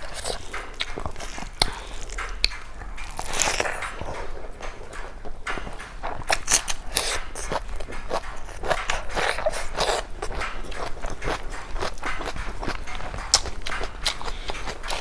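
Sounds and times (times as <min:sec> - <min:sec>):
chewing with wet crunches: 0:00.0 - 0:15.0.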